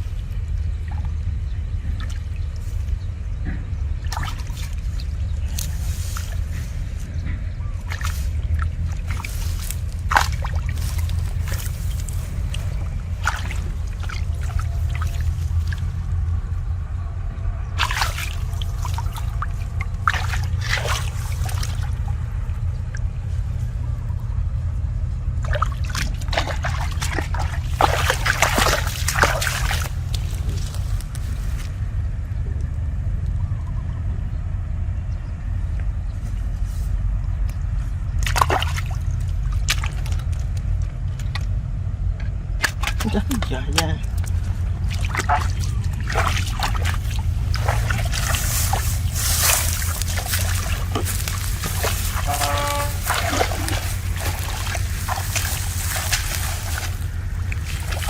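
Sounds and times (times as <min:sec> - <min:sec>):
water splashing and sloshing: 0:00.0 - 0:32.2, 0:35.7 - 0:58.0
steady low rumble: 0:00.0 - 0:58.0.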